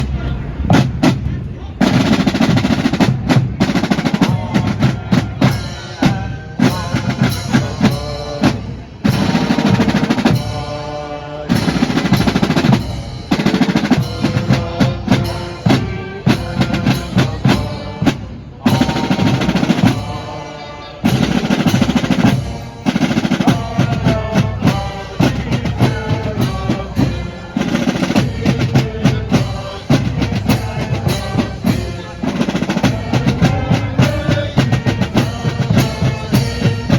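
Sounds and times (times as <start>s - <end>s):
snare and bass drum rolls: 0.0s - 10.8s, 11.5s - 20.3s, 21.0s - 36.9s.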